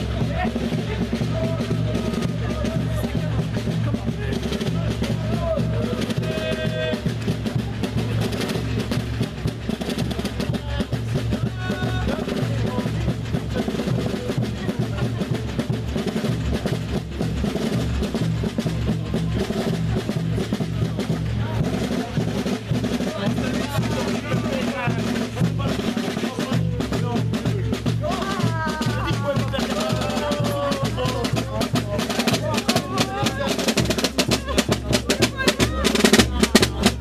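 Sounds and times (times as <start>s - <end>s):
bass drum beat: 0.0s - 37.0s
snare drum strokes and rolls: 0.0s - 37.0s.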